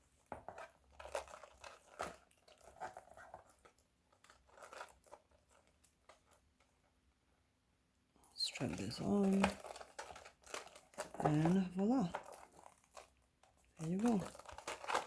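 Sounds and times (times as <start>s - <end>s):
leather strap rustling: 0.0s - 6.7s, 8.5s - 15.0s.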